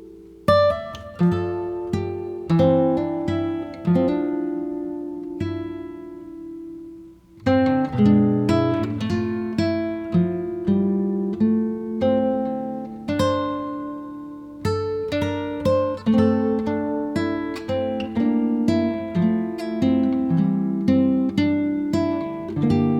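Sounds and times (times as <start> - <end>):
acoustic guitar music: 0.0 - 22.9.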